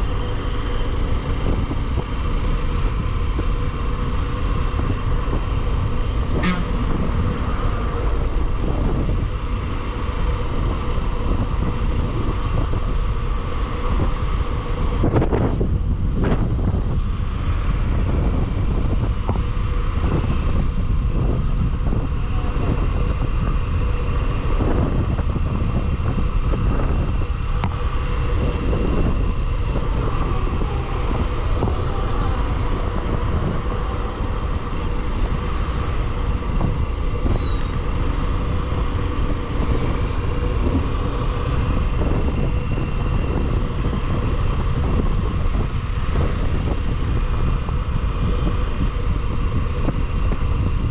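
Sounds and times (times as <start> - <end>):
motorcycle engine and road noise: 0.0 - 50.9
wind buffeting microphone: 0.0 - 50.9.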